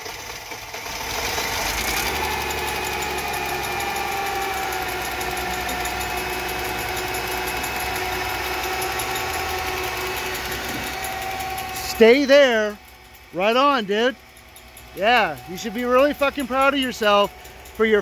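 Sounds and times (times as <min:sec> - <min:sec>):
car engine cranking and idling: 0:00.0 - 0:18.0.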